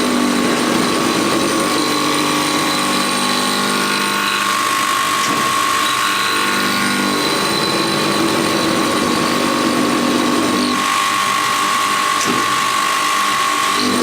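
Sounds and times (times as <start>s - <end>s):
sharpening machine whining and grinding: 0.0s - 14.0s.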